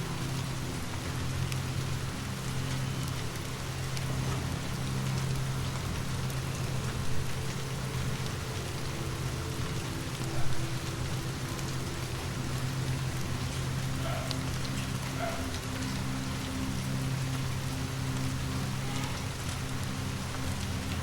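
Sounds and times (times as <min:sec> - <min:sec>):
rain patter: 0:00.0 - 0:21.0.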